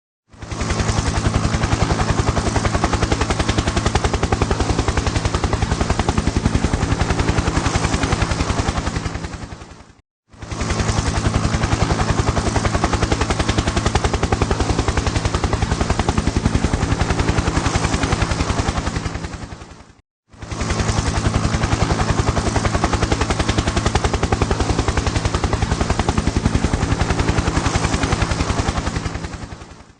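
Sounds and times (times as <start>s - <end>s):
helicopter rotor chop: 0.3s - 29.9s.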